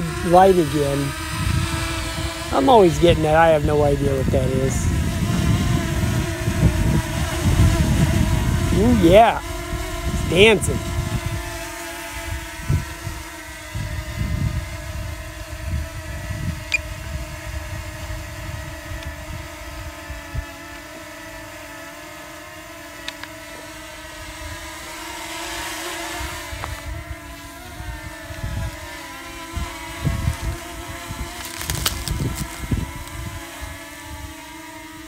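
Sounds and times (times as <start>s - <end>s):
wind buffeting microphone: 0.0s - 20.6s, 26.2s - 34.3s
drone propellers humming: 0.0s - 35.0s.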